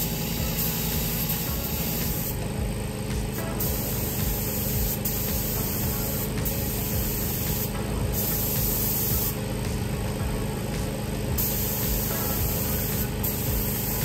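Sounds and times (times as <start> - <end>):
paint spray gun hissing: 0.0 - 14.0.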